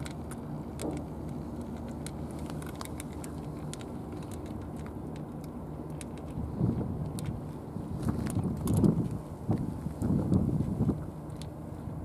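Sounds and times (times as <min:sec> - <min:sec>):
cats crunching food: 0:00.0 - 0:12.0.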